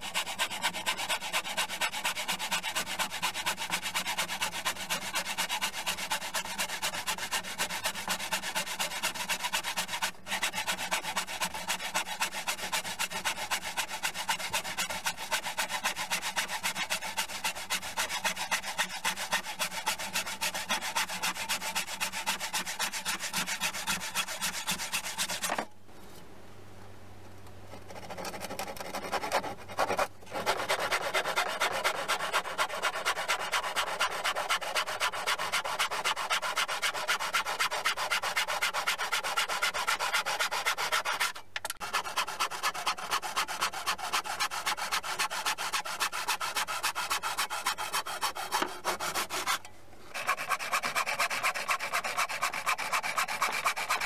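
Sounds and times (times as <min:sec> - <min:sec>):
sandpaper rubbing on wood: 0:00.0 - 0:25.6, 0:28.0 - 0:54.0.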